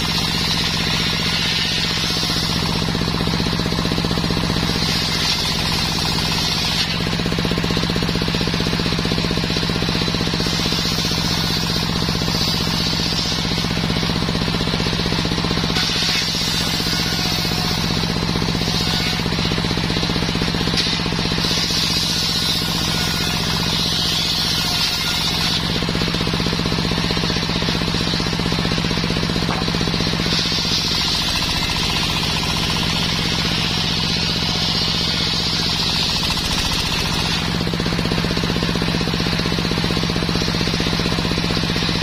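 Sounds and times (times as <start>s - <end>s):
circular saw cutting whine: 0.0s - 42.0s.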